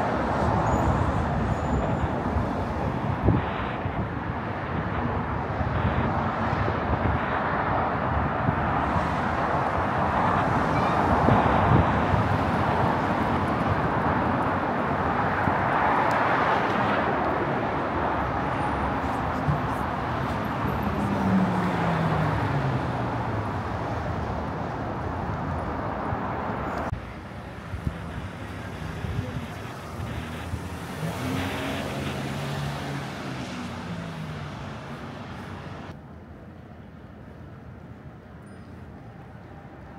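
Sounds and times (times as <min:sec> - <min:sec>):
cars passing on road: 0:00.0 - 0:39.9.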